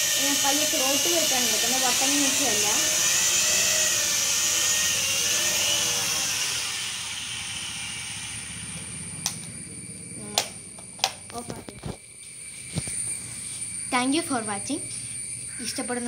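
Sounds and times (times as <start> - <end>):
toy drone motors whining: 0.0 - 16.0.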